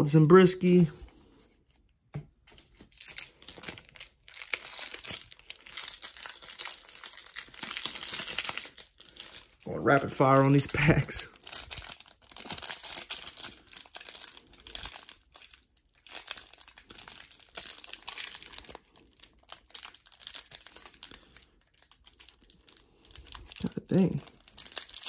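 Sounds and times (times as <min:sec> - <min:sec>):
foil wrapper crinkling and tearing: 0:02.4 - 0:25.0.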